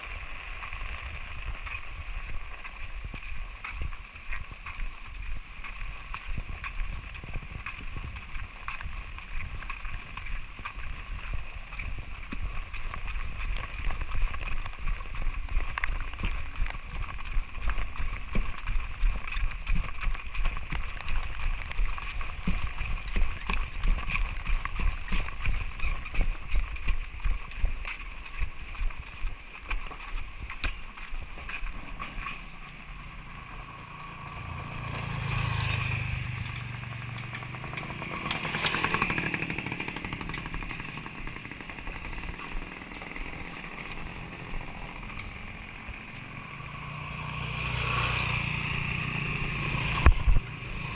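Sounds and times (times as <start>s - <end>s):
low engine hum: 0.0s - 50.9s
walking footsteps: 0.0s - 50.9s.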